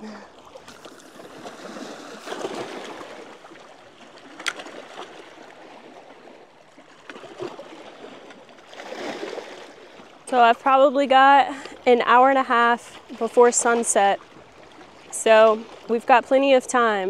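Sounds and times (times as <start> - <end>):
water lapping against rocks: 0.0 - 17.0.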